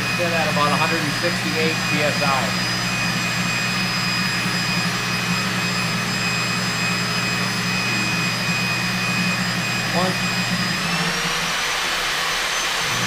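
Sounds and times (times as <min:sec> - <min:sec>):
machine humming: 0:00.0 - 0:13.0
thin high whine: 0:00.0 - 0:13.0.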